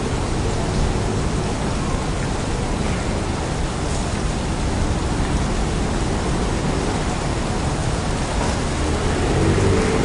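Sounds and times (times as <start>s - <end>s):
rushing white noise hiss: 0.0s - 10.0s.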